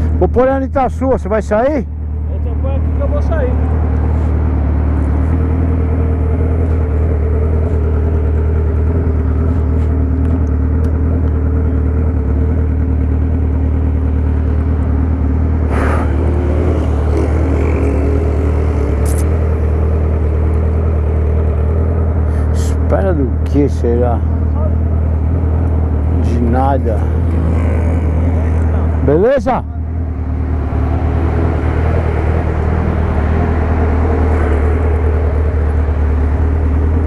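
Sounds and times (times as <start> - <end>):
motorcycle engine idling: 1.8 - 15.7, 16.3 - 37.0.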